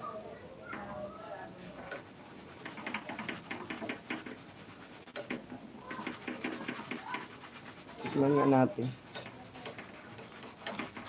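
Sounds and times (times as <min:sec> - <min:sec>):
rice crackling in hot oil: 0:00.6 - 0:11.0.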